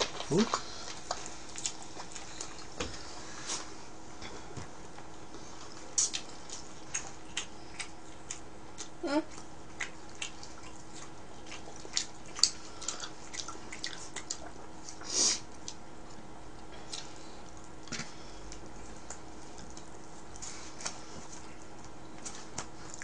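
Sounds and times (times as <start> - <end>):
person chewing: 0.0 - 2.8, 5.0 - 23.0.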